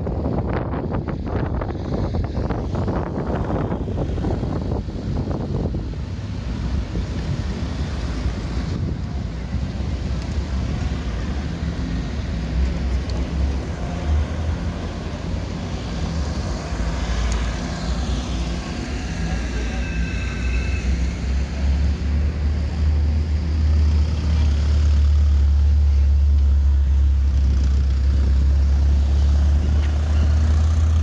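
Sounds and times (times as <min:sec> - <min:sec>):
traffic low rumble: 0:00.0 - 0:31.0.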